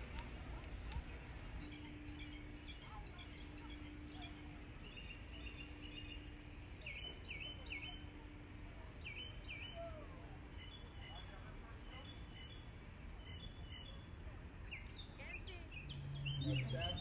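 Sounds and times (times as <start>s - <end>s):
faint steady hum: 0.0s - 15.9s
songbird singing: 0.0s - 17.0s.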